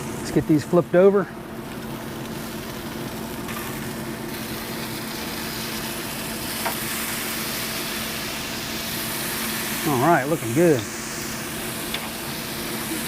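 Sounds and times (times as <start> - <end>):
chicken sizzling on a grill: 0.0 - 13.0.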